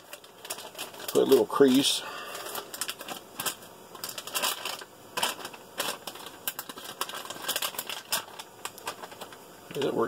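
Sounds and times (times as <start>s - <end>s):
food pouch packaging crinkling: 0.0s - 10.0s.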